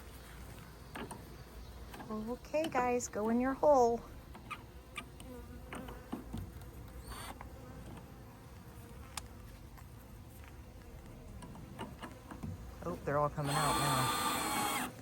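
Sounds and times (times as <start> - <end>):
bees buzzing: 0.4 - 15.0.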